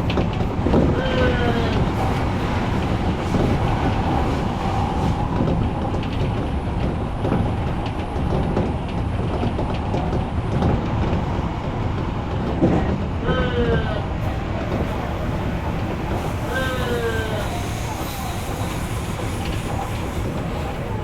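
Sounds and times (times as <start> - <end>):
rail joint clicks: 0.0 - 21.0
train wheels rumbling on rails: 0.0 - 21.0.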